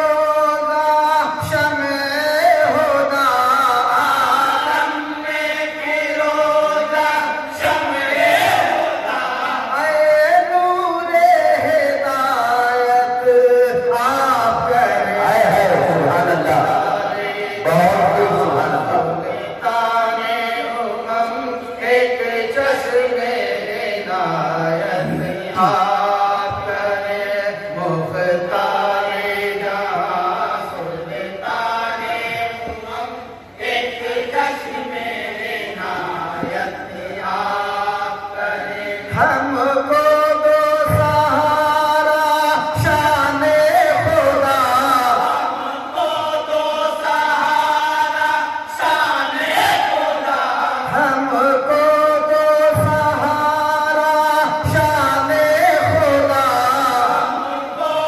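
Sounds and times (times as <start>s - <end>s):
men chanting together: 1.2s - 12.8s, 13.8s - 58.0s.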